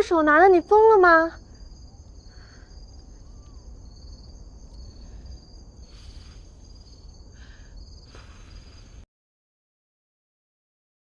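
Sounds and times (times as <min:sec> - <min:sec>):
low background rumble: 0:00.0 - 0:09.0
crickets chirping: 0:00.0 - 0:09.1.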